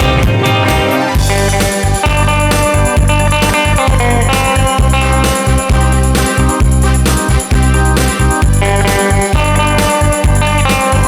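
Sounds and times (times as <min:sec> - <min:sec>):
backing track with bass beat: 0:00.0 - 0:11.0
guitar playing sustained melody: 0:00.0 - 0:11.0.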